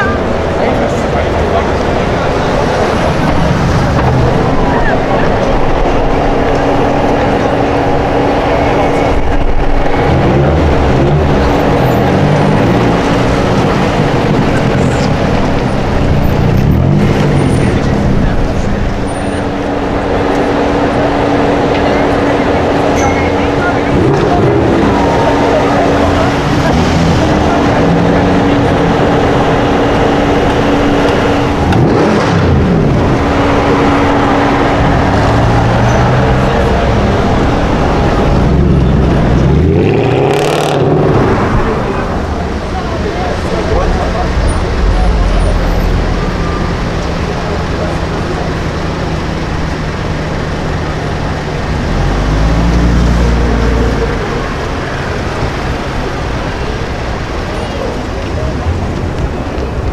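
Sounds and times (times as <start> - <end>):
car engine revving: 0.0 - 59.9
street traffic noise: 0.0 - 59.9.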